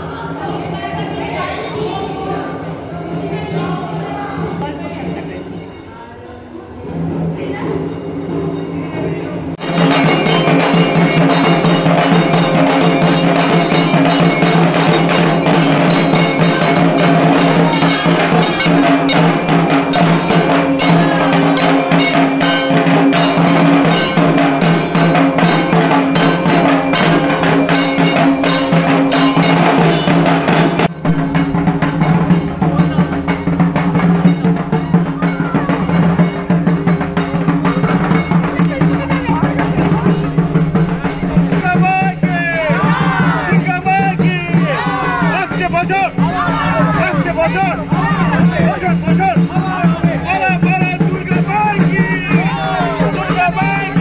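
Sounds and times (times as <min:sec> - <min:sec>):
drums in fast festive rhythm: 0:00.0 - 0:54.0
metallic ringing: 0:05.6 - 0:54.0.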